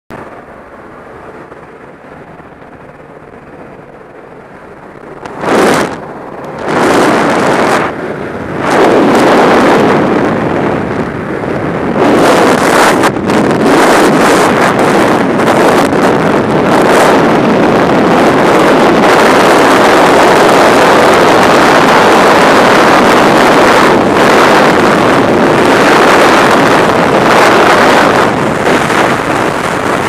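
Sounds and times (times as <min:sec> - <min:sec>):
steady rush of air: 0:00.1 - 0:30.0
wind buffeting microphone: 0:00.1 - 0:30.0.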